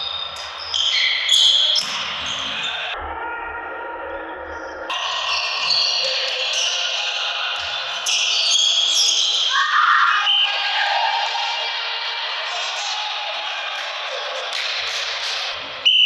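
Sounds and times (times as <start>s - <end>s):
players' voices: 0.2s - 16.0s.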